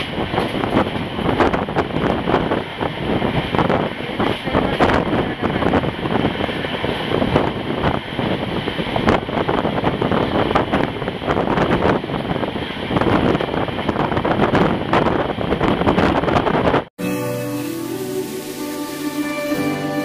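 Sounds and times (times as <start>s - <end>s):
train wheels clattering on rails: 0.0s - 16.9s
wind buffeting microphone: 0.0s - 16.9s.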